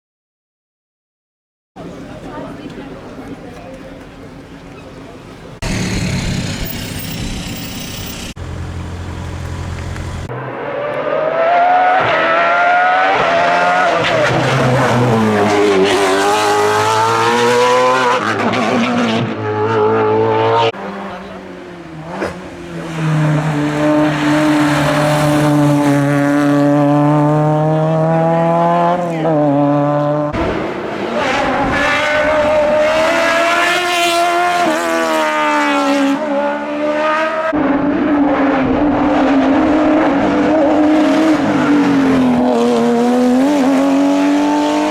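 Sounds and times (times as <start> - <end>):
race car engine at full throttle: 4.1 - 44.9.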